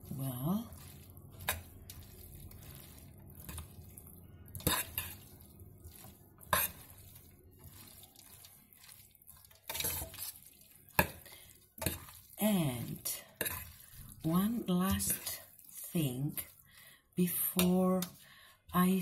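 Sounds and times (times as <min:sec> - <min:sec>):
wet pasta rustling: 0:00.0 - 0:19.0.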